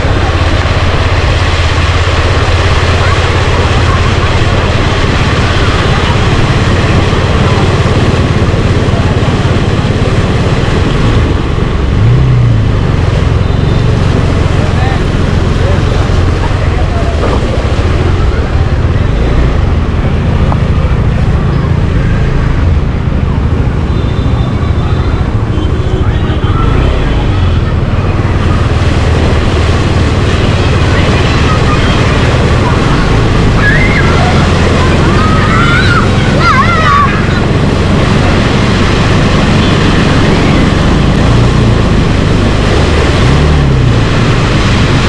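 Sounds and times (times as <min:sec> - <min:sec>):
vehicle road noise: 0:00.0 - 0:45.0
wind noise on microphone: 0:00.0 - 0:45.0.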